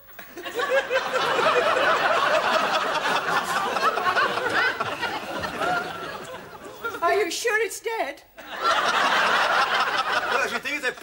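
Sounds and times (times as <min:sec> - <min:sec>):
audience laughing: 0:00.2 - 0:07.0, 0:08.4 - 0:11.0.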